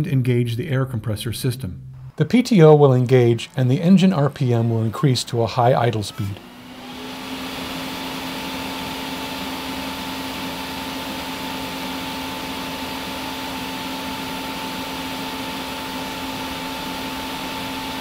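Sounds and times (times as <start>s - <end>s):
air compressor whine: 2.7s - 18.0s.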